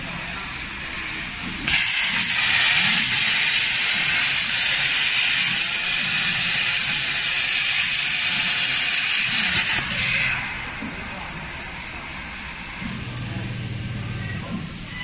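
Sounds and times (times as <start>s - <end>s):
plasma torch arc hissing: 0.7s - 14.9s.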